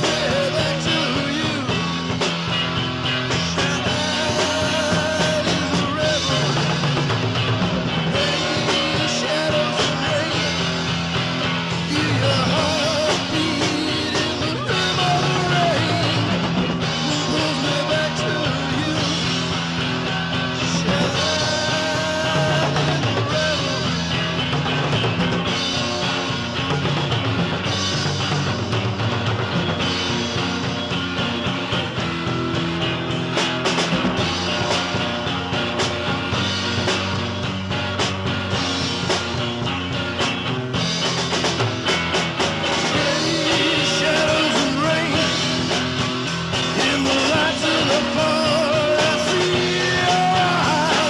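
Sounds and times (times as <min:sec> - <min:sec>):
rock band playing: 0:00.0 - 0:51.0.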